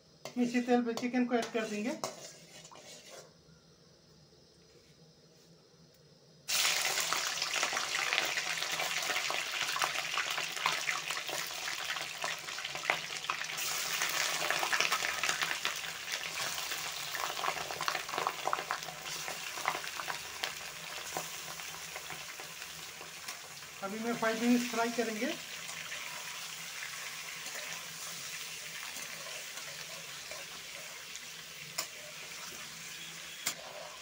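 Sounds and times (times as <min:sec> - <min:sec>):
chicken sizzling in hot oil: 0:06.5 - 0:34.0.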